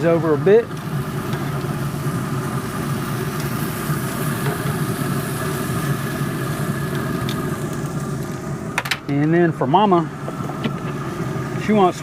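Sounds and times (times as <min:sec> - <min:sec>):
motor or fan humming: 0:00.0 - 0:12.0.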